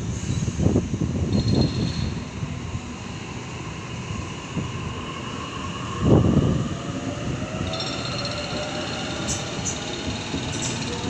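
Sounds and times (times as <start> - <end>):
train cars and wheels rumbling: 0.0 - 11.0.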